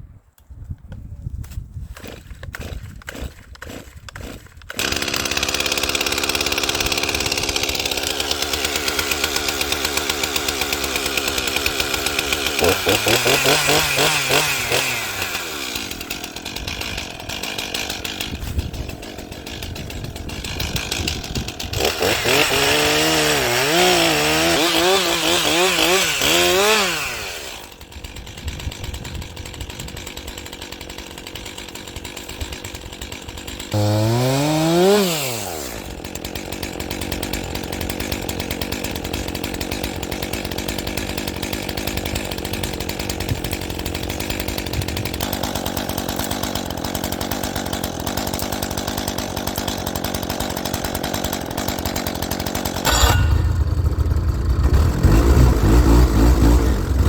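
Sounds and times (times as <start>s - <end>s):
chainsaw revving and cutting: 1.9s - 57.0s.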